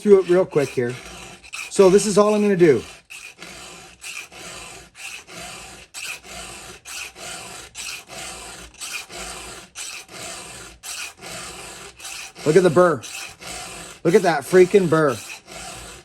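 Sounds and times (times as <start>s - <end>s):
file rasping on saw chain: 0.0s - 16.0s.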